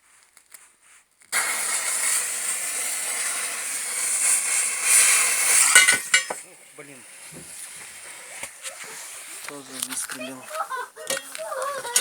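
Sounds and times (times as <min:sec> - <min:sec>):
fuse burning with loud hiss: 0:00.0 - 0:10.6.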